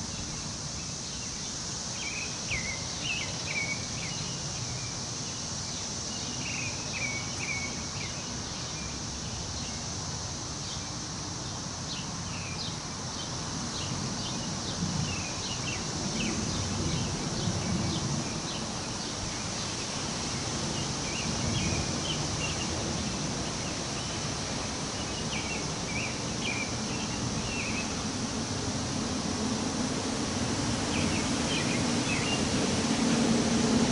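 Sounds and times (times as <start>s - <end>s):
high insect drone: 0.0s - 33.9s
wind through trees: 0.0s - 33.9s.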